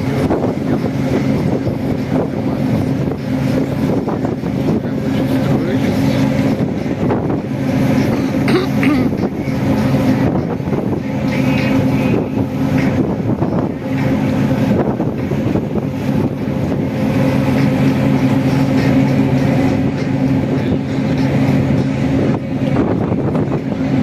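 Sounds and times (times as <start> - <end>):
rushing wind and water: 0.0 - 24.0
ship diesel engine humming: 0.0 - 24.0.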